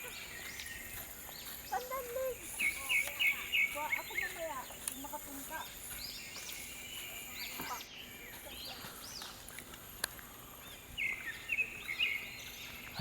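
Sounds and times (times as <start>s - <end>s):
bird trill: 0.0s - 9.6s, 10.4s - 13.0s
birds chirping: 0.0s - 13.0s.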